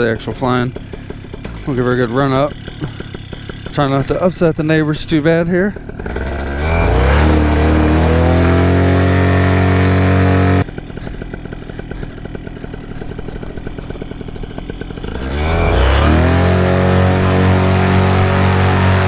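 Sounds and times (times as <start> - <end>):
paramotor engine revving: 0.0 - 19.0.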